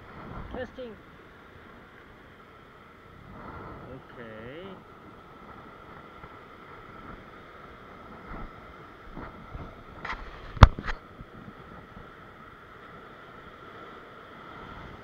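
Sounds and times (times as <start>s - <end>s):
surf breaking over rocks: 0.0s - 15.0s.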